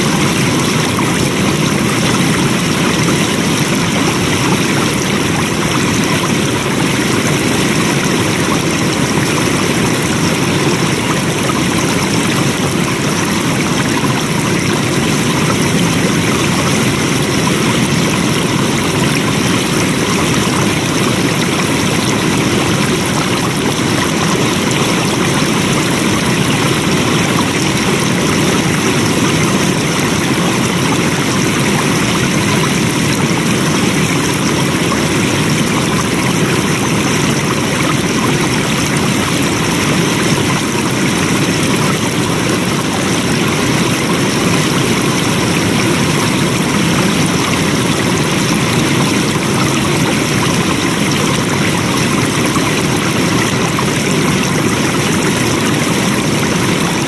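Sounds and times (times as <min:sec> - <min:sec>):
rushing stream: 0:00.0 - 0:57.0.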